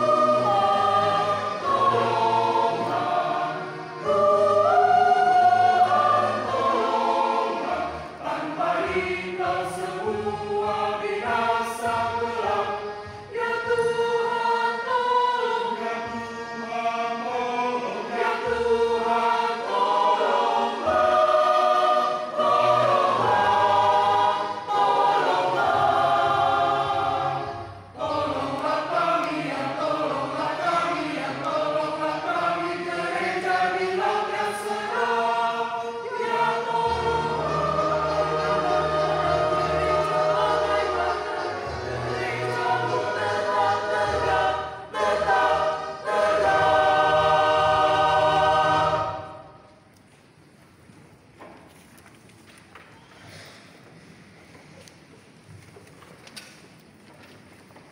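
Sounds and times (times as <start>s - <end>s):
choir singing a hymn: 0.0s - 49.9s.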